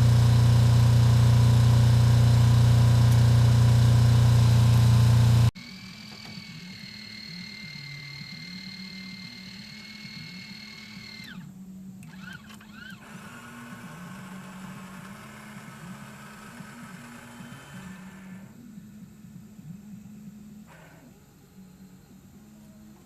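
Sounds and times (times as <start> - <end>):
engine running: 0.0 - 18.6.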